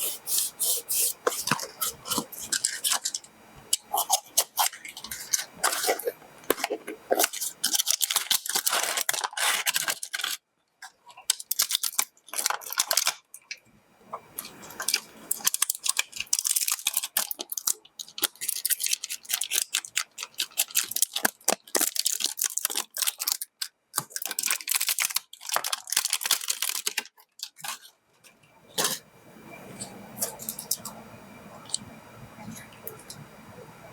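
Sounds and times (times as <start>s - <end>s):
crinkly rustling: 1.2s - 13.5s, 14.1s - 31.0s.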